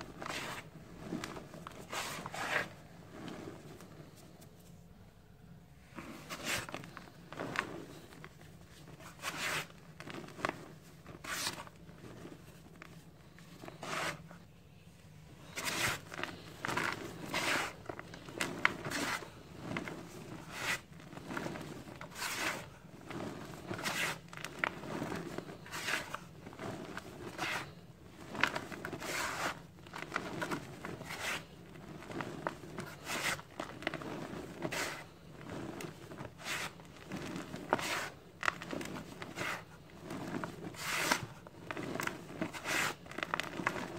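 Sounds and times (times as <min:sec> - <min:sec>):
hands raking dry powder: 0:00.0 - 0:04.8, 0:05.9 - 0:14.4, 0:15.3 - 0:43.9.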